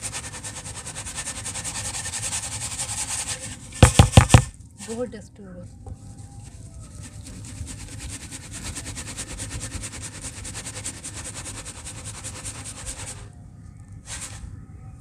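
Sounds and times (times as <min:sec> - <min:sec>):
dirt rattling in shaken sieve: 0:00.0 - 0:05.1, 0:06.0 - 0:13.3, 0:14.0 - 0:14.4.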